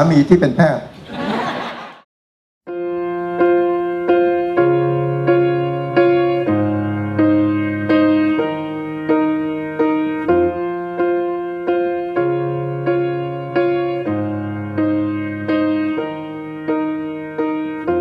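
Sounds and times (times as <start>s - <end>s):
solo piano chords: 2.7s - 18.0s.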